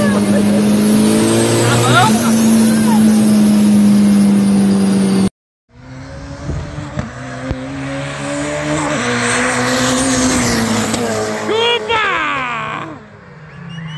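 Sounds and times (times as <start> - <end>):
car engine at high revs: 0.0 - 13.9
cars speeding past: 0.0 - 13.9.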